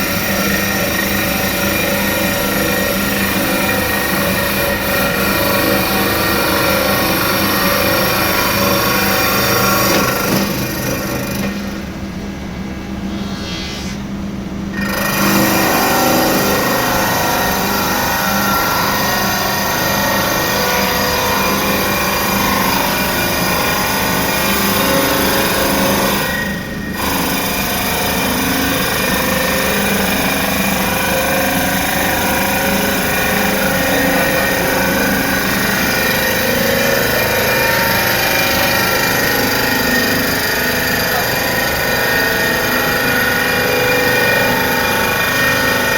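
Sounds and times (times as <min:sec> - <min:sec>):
lathe machining noise: 0:00.0 - 0:45.9.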